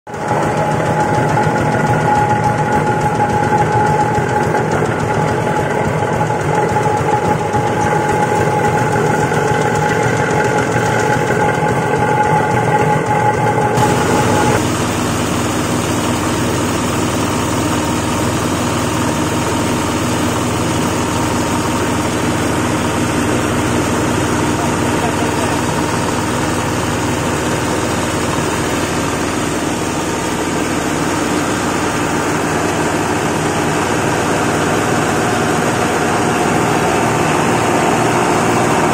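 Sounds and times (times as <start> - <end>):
grinding machine running: 0.1 - 38.9
steady whine: 0.1 - 38.9.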